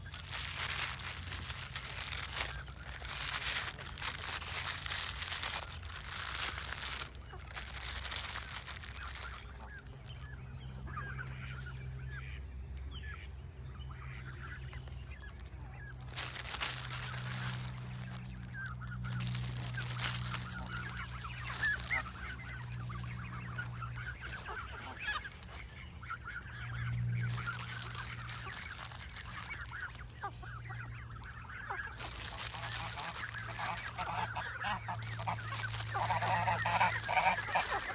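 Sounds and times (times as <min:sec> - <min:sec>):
geese honking: 0:00.0 - 0:37.9.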